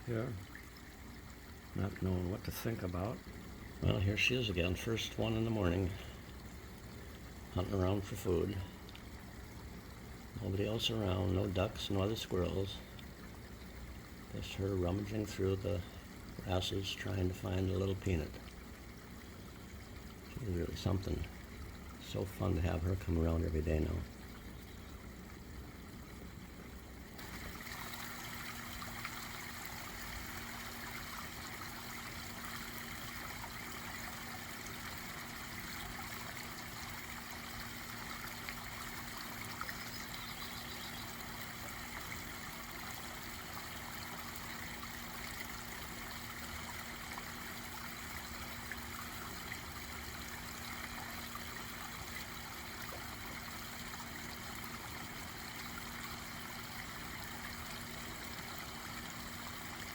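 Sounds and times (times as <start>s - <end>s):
faint steady hum: 0.0s - 59.9s
pond waterfall trickling: 0.0s - 59.9s.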